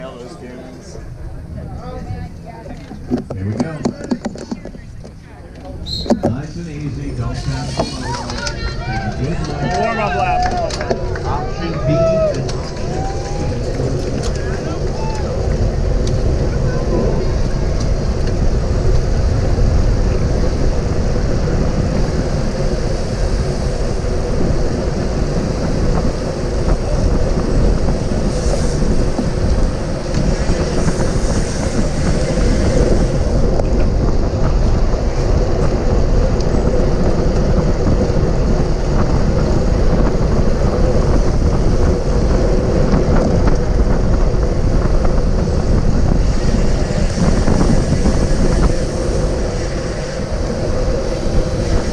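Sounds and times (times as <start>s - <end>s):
low rumble: 0.0s - 51.9s
wind rushing over microphone: 0.0s - 51.9s.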